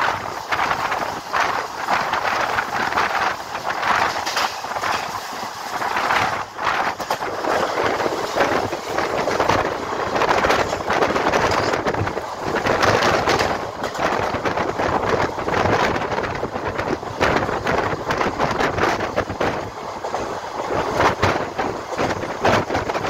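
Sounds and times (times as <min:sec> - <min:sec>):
train wheels on rails: 0:00.0 - 0:23.0
wind buffeting microphone: 0:00.0 - 0:23.0.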